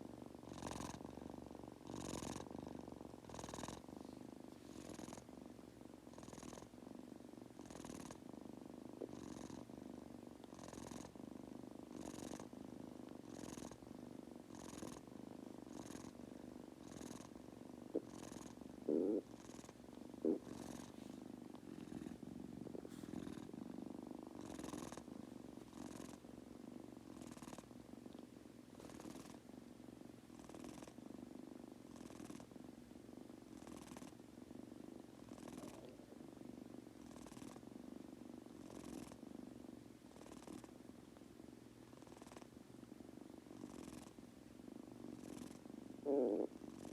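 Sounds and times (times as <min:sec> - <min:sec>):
kitten purring: 0:00.0 - 0:46.9.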